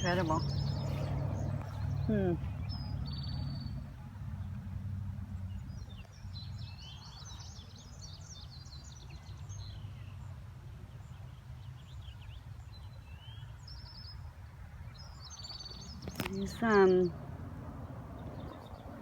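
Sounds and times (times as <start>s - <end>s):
small birds chirping: 0.0s - 10.3s, 11.0s - 19.0s
low background rumble: 0.0s - 11.9s, 14.9s - 19.0s.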